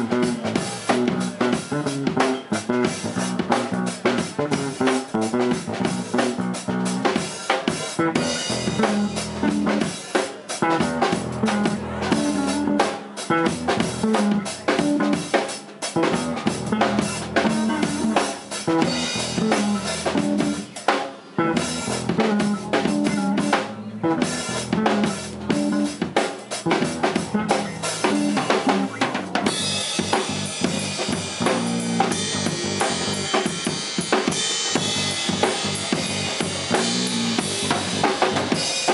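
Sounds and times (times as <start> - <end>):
electric bass guitar: 0.0 - 10.0, 10.6 - 20.7, 21.4 - 38.9
drum kit groove: 0.0 - 38.9.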